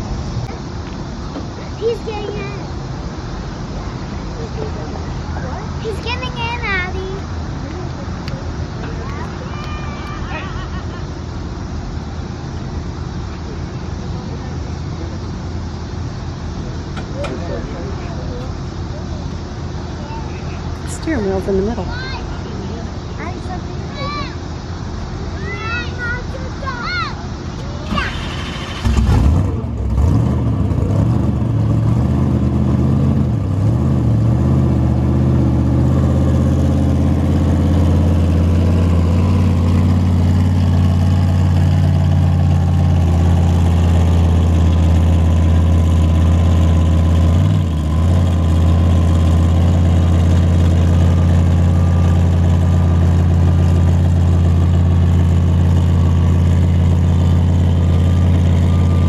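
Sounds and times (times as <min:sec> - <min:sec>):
monster truck engine rumbling: 0:00.0 - 0:59.0.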